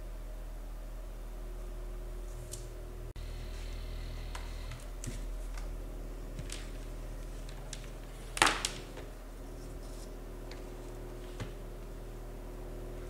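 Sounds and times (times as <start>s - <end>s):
subwoofer low test tone hum: 0.0s - 13.0s.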